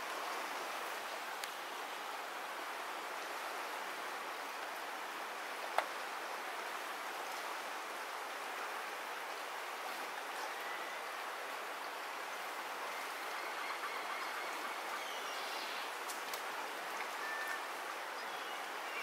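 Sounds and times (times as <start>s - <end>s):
river water running over stones: 0.0s - 19.0s.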